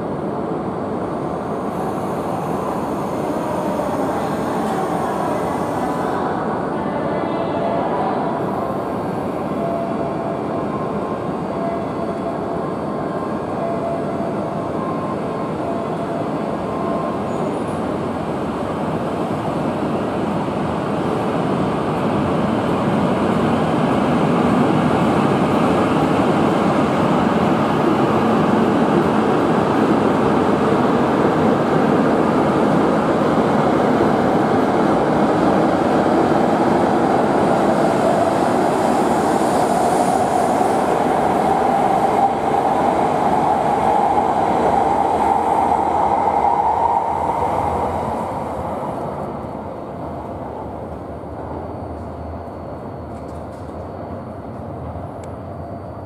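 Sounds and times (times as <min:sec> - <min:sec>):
train running noise: 0:00.0 - 0:56.0.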